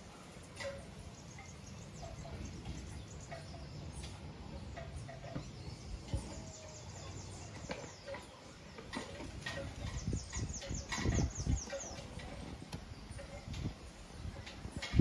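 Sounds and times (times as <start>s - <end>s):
birds chirping: 0.0s - 15.0s
wind rumbling on microphone: 1.6s - 15.0s.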